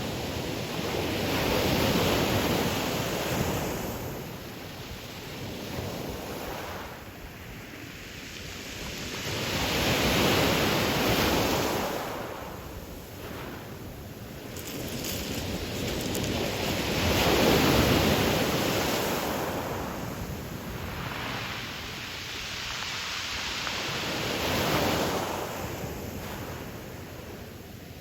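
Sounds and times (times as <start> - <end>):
ocean waves breaking on beach: 0.0 - 27.4.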